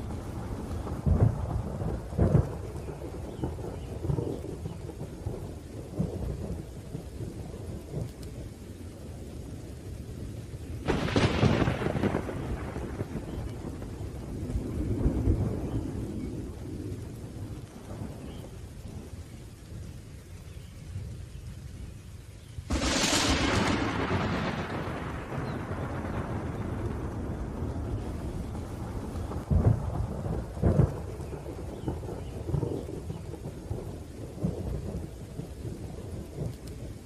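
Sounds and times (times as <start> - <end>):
rolling thunder: 0.0 - 19.9, 22.6 - 37.0
rain falling: 0.0 - 37.0.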